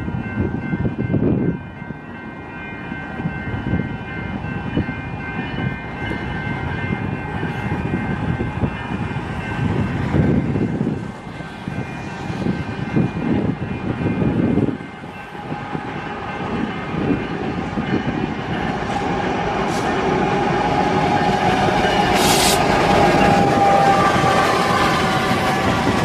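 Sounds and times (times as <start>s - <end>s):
crossing warning bell ringing: 0.0s - 26.0s.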